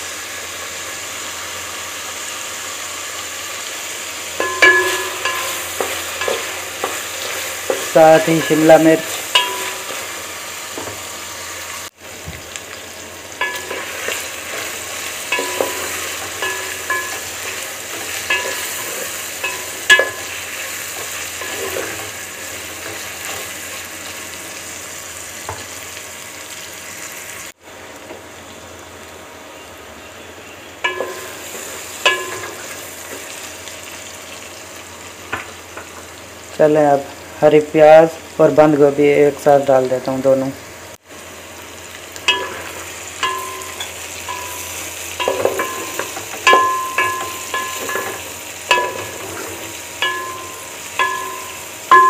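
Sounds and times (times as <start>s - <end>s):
food sizzling in oil: 0.0s - 52.0s.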